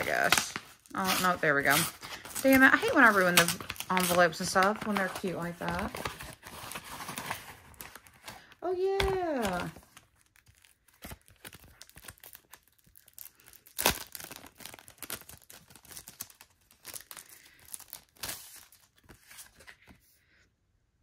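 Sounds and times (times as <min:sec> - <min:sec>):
paper packaging rustling and tearing: 0:00.0 - 0:20.0.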